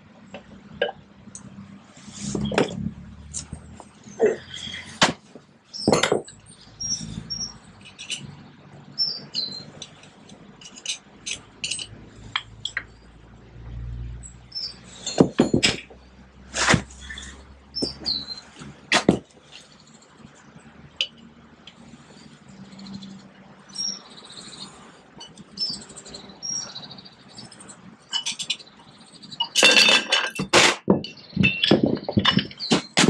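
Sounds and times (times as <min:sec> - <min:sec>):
metal clinks and knocks: 0:02.4 - 0:13.2, 0:14.1 - 0:23.7, 0:25.1 - 0:26.3, 0:27.2 - 0:33.0.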